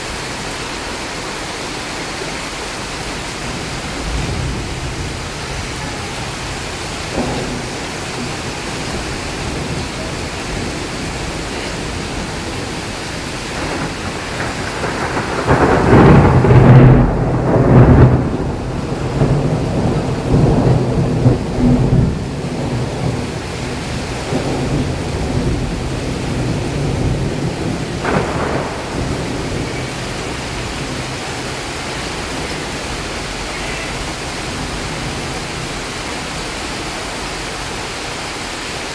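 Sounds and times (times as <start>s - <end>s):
rolling thunder rumble: 0.0s - 38.1s
heavy rain hissing: 0.0s - 38.9s.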